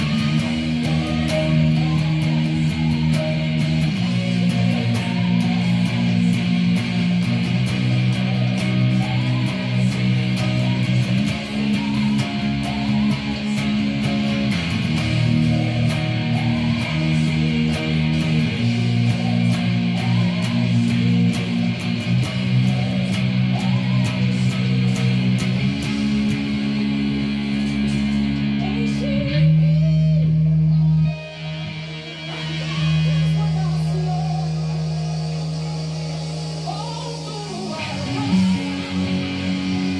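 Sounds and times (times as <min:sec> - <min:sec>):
strummed guitar: 0:00.0 - 0:39.9
sustained bass line: 0:00.0 - 0:39.9.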